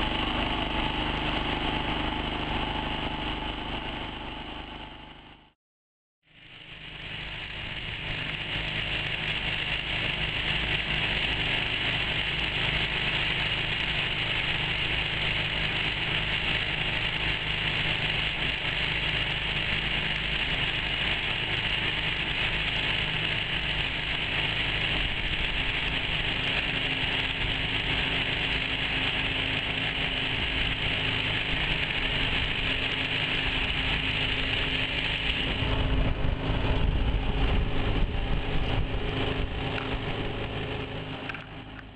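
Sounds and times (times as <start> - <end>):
boat motor running: 0.0 - 5.6, 6.3 - 41.9
heavy low rumble: 6.4 - 41.9.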